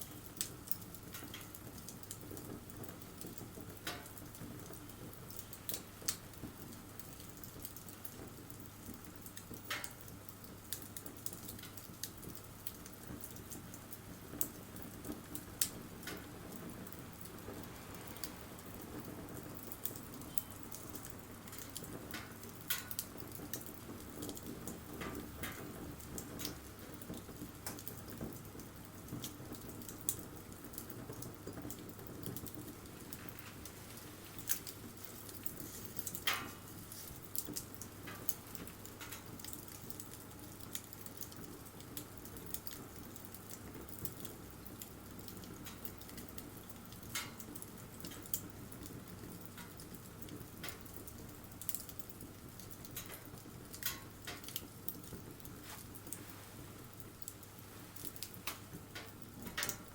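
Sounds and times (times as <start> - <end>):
low hiss of flame: 0.0 - 48.5, 49.5 - 59.9
bonfire crackling and popping: 0.0 - 59.9.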